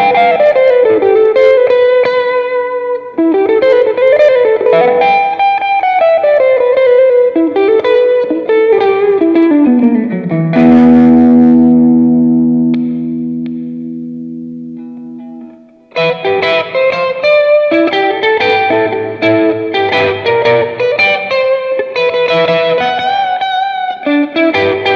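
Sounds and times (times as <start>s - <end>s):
electric guitar chord ringing: 0.0s - 24.9s
electric guitar lead melody: 0.0s - 24.9s.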